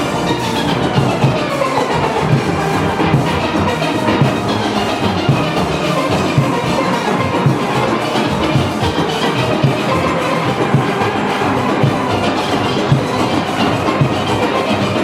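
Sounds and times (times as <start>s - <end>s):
steady drum beat: 0.0s - 15.0s
steel pans playing: 0.0s - 15.0s.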